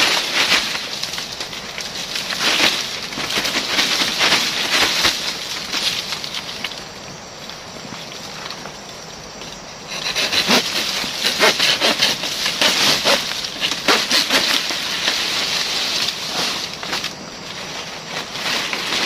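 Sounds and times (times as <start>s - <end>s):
palm fronds rustling and crackling: 0.0s - 19.0s.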